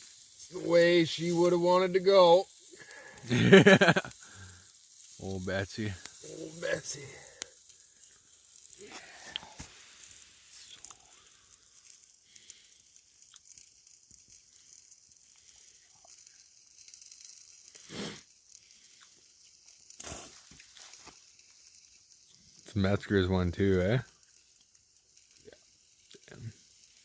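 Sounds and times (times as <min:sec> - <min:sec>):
chicken sizzling on hot rock: 0:00.0 - 0:27.0
small crackles: 0:00.0 - 0:27.0.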